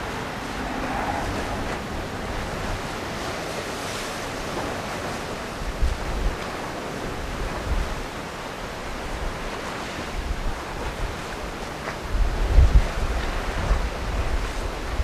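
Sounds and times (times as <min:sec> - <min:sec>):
wind buffeting microphone: 0:00.0 - 0:08.2, 0:09.0 - 0:15.0
rough sea washing ashore: 0:00.0 - 0:15.0.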